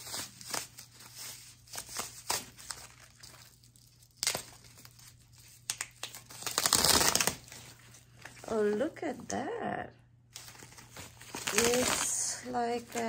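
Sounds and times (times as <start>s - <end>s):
paper wrapping crinkling: 0.0s - 8.6s, 10.3s - 13.0s.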